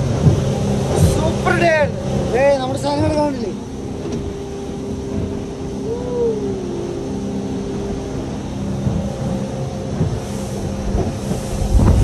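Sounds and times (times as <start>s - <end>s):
outboard boat engine running: 0.0s - 12.0s.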